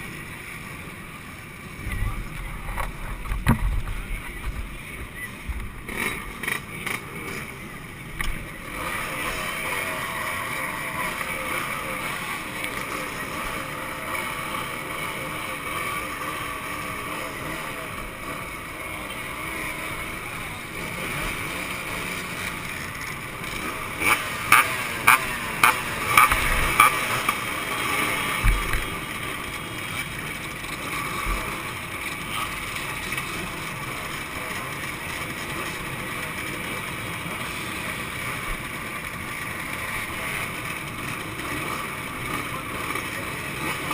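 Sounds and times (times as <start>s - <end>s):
two-stroke motorcycle engines: 0.0s - 43.9s.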